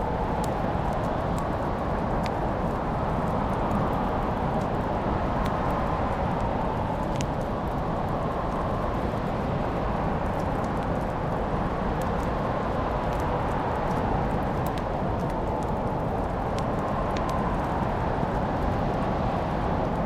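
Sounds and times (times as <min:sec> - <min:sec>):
fire crackling and popping: 0:00.0 - 0:20.0
wood fire burning: 0:00.0 - 0:20.0.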